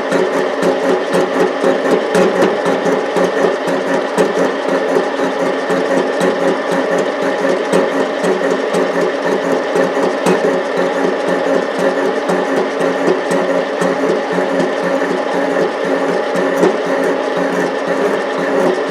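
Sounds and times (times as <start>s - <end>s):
lathe motor hum: 0.0s - 18.9s
fast even ticking of cutting: 0.1s - 18.9s.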